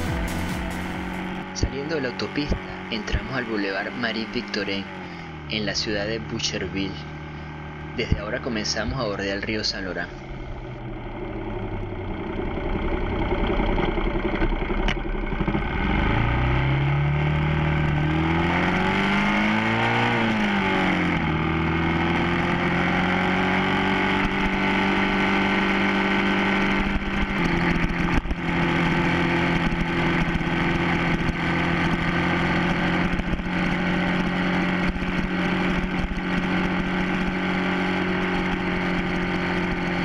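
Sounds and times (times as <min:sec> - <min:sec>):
motorcycle engine: 0:00.0 - 0:40.0.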